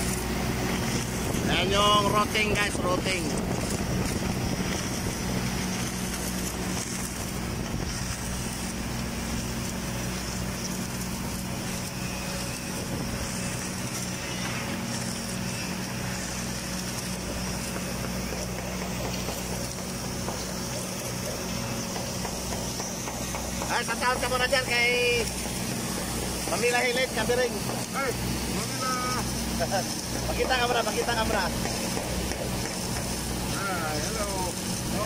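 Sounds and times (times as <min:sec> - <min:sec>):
constant welding hiss: 0:00.0 - 0:35.0
welding machine hum: 0:00.0 - 0:35.0.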